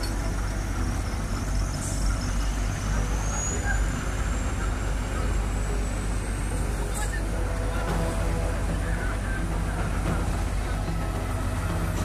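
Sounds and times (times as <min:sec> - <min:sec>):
faint high whine: 0:00.0 - 0:12.0
vehicle engine idling: 0:00.0 - 0:12.0.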